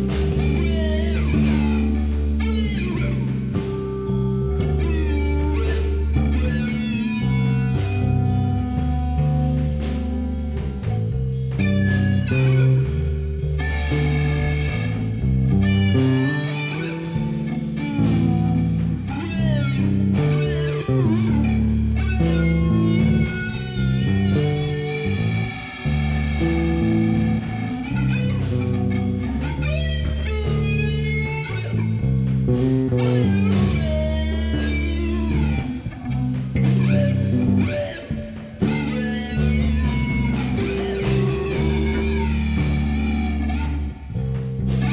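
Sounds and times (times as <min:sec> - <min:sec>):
bass line: 0:00.0 - 0:44.9
drums with cymbal hits: 0:00.0 - 0:44.9
electric guitar lead: 0:00.0 - 0:44.9.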